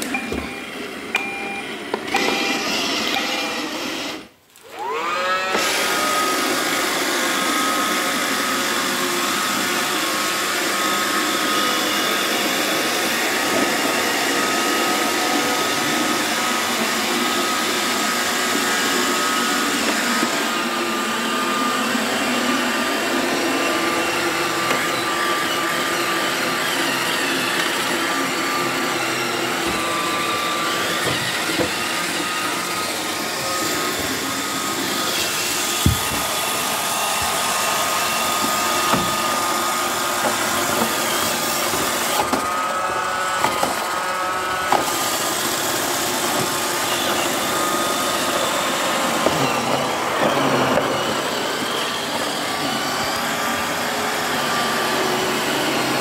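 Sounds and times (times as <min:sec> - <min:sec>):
robot vacuum running: 0:00.0 - 0:56.0.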